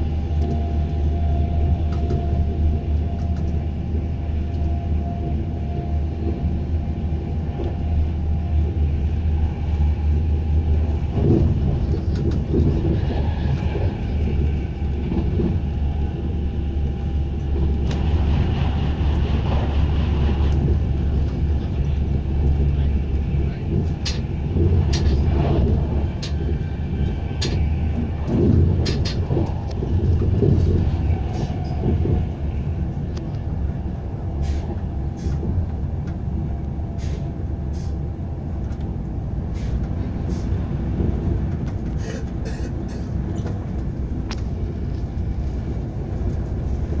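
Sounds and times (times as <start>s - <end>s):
train rumble inside carriage: 0.0s - 47.0s.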